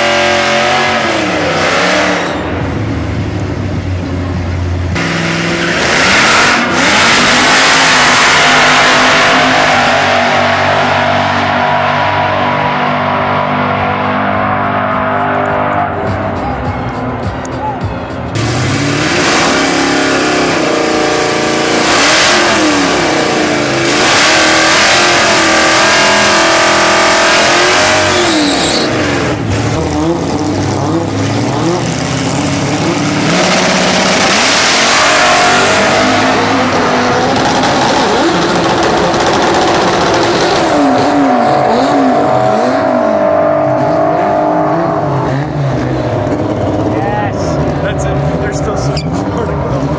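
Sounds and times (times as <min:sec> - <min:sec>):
supercharged engine revving: 0:00.0 - 0:02.7, 0:04.9 - 0:16.4, 0:18.3 - 0:49.9.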